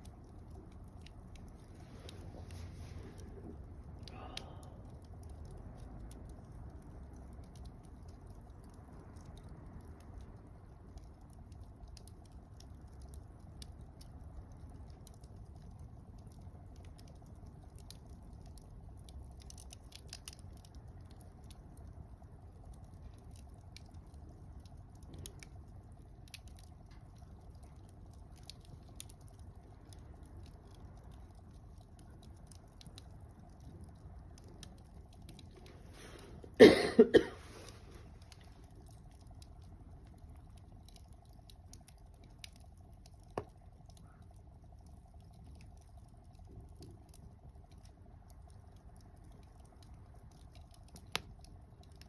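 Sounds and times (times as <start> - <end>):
faint wood fire crackling: 0.0 - 52.0
fire popping: 0.0 - 52.0
low rush of flames: 0.0 - 52.0.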